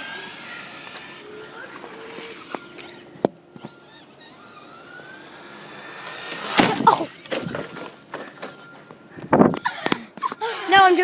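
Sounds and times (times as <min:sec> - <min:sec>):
toy truck electric motor whining: 0:00.0 - 0:08.9.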